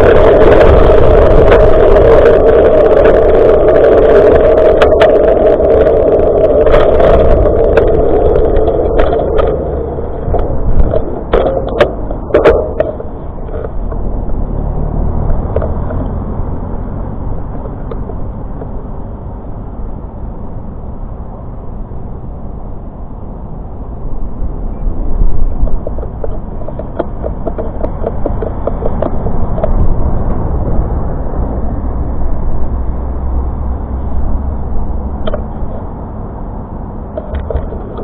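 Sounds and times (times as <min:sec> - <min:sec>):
wind buffeting microphone: 0:00.0 - 0:20.7, 0:23.6 - 0:38.0
tyre and road rumble: 0:00.0 - 0:38.0.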